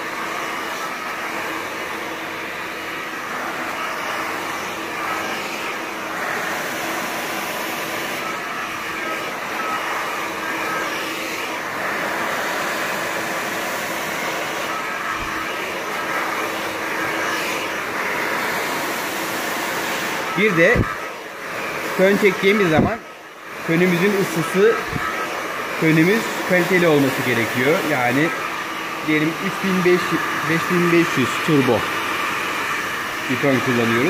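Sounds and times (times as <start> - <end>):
hair dryer running: 0.0 - 34.0.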